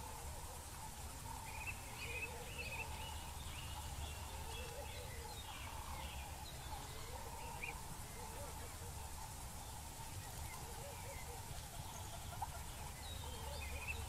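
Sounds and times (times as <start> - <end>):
birds chirping: 0.0 - 14.0
wavering bird calls: 0.0 - 14.0.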